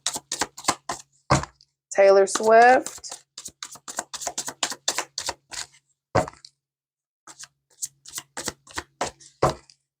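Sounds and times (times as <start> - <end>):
cards shuffling clicks and slaps: 0.0 - 1.6, 2.3 - 6.6, 7.3 - 9.8.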